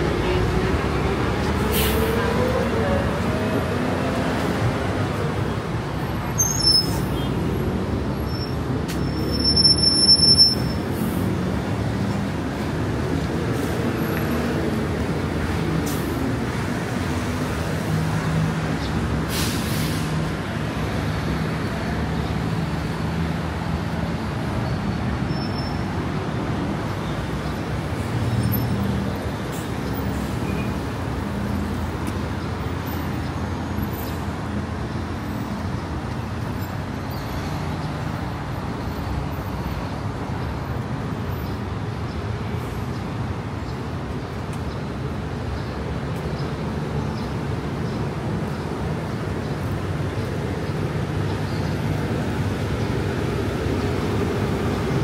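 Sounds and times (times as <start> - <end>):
road traffic engine rumble: 0.0 - 55.0.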